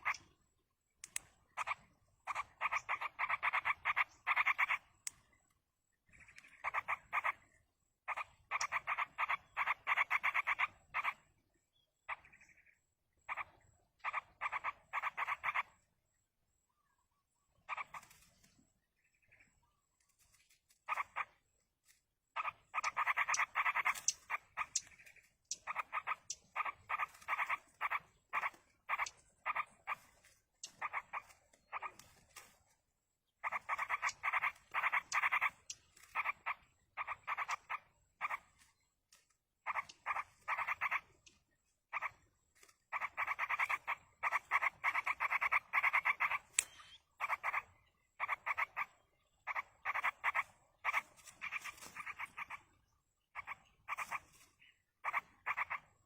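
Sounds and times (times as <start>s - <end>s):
nestlings begging with raspy chatter: 0.0s - 0.4s, 1.0s - 5.2s, 6.1s - 11.4s, 13.2s - 15.8s, 17.6s - 18.3s, 20.9s - 21.4s, 22.4s - 32.7s, 33.3s - 38.7s, 39.6s - 56.0s.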